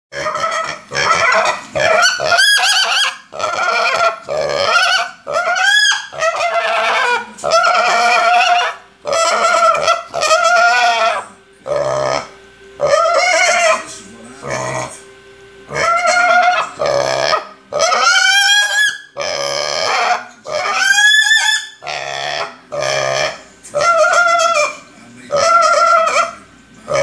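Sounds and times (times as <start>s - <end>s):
piglet squealing: 0.1s - 14.9s, 15.7s - 27.0s.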